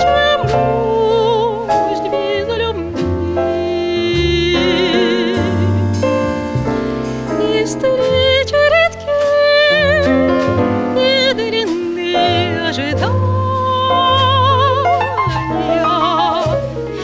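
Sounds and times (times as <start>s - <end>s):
woman singing with vibrato: 0.0s - 6.0s, 7.4s - 10.3s, 10.9s - 17.0s
double bass: 0.0s - 17.0s
piano: 0.0s - 17.0s.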